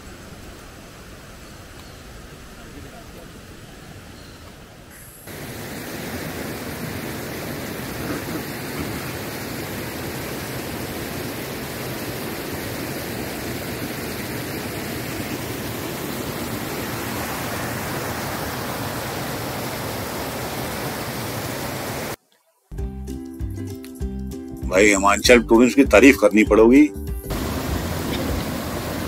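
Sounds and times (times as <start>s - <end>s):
stream rushing over rocks: 0.0s - 22.2s, 27.3s - 29.0s.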